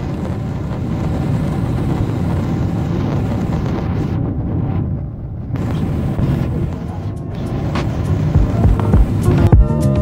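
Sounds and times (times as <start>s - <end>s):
airflow hiss: 0.0s - 9.8s
jet engine low rumble: 0.0s - 10.0s.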